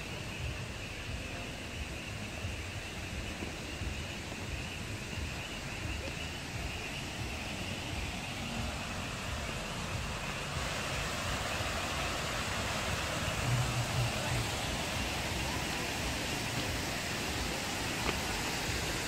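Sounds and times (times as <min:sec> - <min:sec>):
water fountain splashing: 0:00.0 - 0:19.0.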